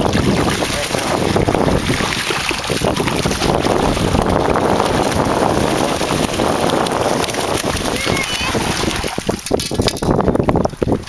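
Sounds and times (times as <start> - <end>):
fish thrashing and splashing: 0.0 - 11.0.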